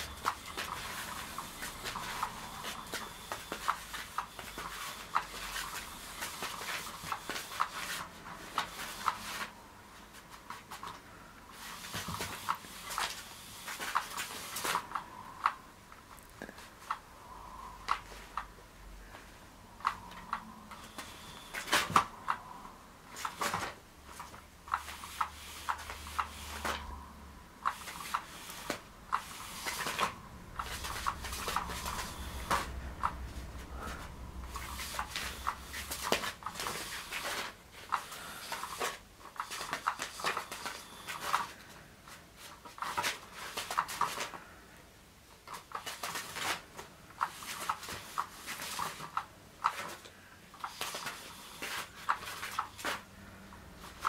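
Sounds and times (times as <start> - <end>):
faint motor whine: 0.0 - 54.0.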